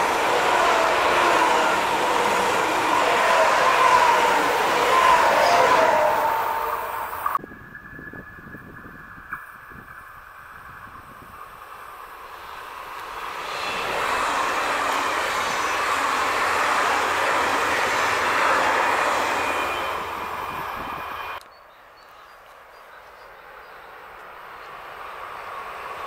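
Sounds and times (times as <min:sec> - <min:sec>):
train wheels rushing on rails: 0:00.0 - 0:21.4, 0:22.5 - 0:26.0.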